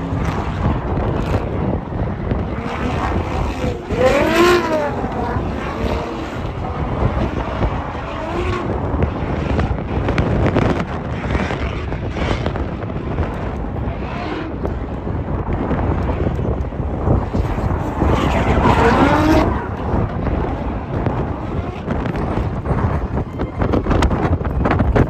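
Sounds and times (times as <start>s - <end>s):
car engine revving: 0.0s - 24.9s
wind buffeting microphone: 0.0s - 25.0s.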